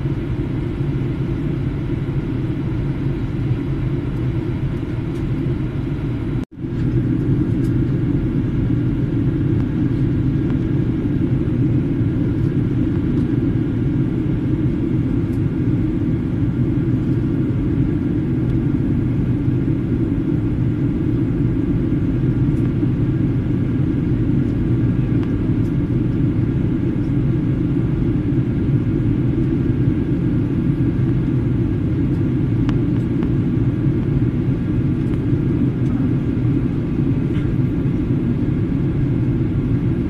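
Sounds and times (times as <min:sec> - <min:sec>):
engine and airflow rumble: 0:00.0 - 0:40.0
faint steady whine: 0:00.0 - 0:40.0.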